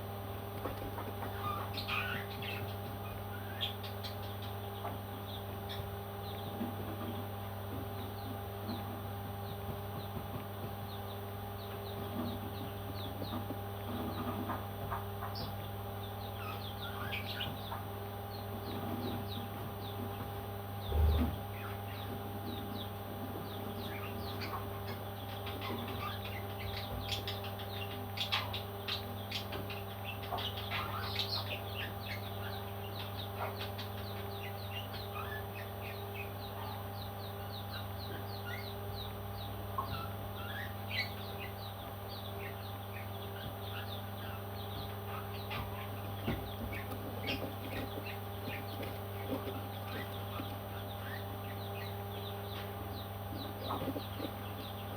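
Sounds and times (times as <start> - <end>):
steady low hum: 0.0 - 54.9
parrot chicks chirping: 0.3 - 54.9.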